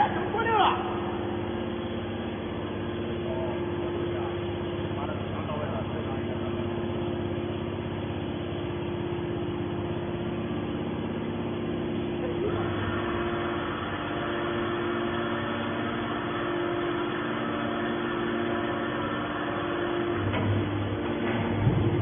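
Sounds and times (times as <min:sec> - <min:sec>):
hydraulic power unit humming: 0:00.0 - 0:22.0.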